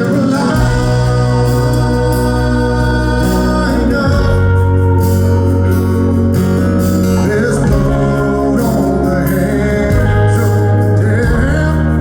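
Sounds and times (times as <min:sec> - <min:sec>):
live rock band playing: 0:00.0 - 0:12.0
person singing: 0:00.0 - 0:12.0.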